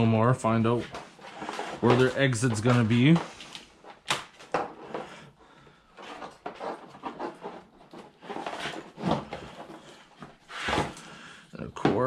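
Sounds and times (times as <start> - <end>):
wires rustling with plastic clacks: 0.0 - 5.3, 5.9 - 11.1.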